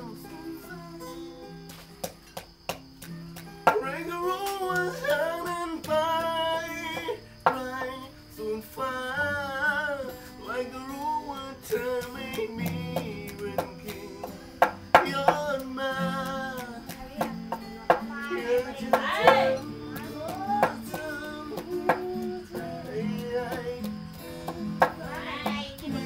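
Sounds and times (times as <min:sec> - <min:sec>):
person singing: 0:00.0 - 0:01.4, 0:03.7 - 0:26.0
guitar accompaniment: 0:00.0 - 0:26.0.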